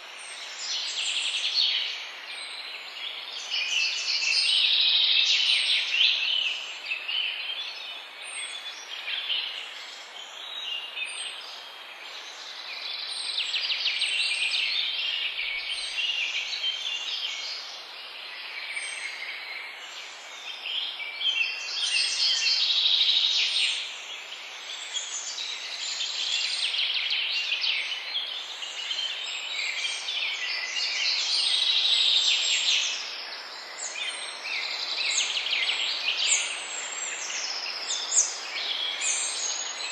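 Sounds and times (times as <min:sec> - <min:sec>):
background hiss: 0:00.0 - 0:39.9
songbirds chirping and singing: 0:00.0 - 0:39.9.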